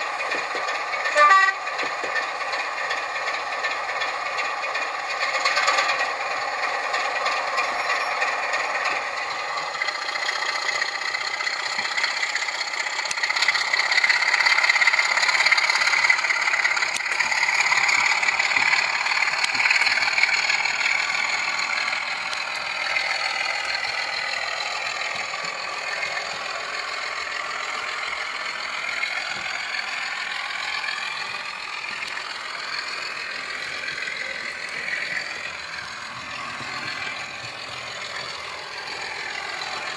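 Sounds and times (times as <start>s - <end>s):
model locomotive diesel engine running: 0.0s - 39.9s
rattle: 0.0s - 39.9s.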